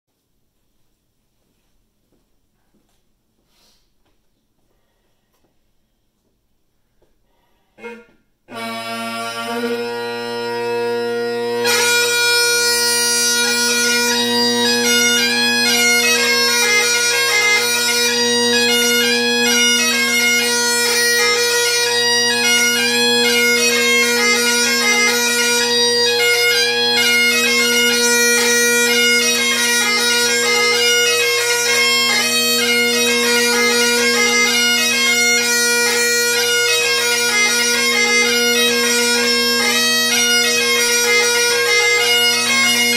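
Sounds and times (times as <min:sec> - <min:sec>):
bagpipe chanter jig melody: 0:07.3 - 0:42.9
bagpipe drones: 0:07.3 - 0:42.9.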